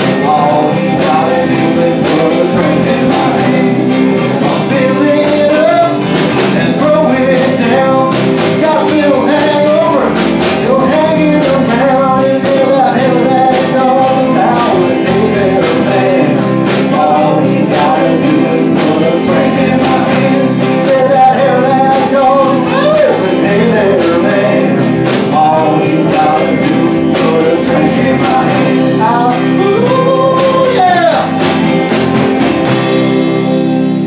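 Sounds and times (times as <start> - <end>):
person singing: 0.0 - 31.8
band playing a song: 0.0 - 34.0
drums and cymbals: 0.0 - 34.0.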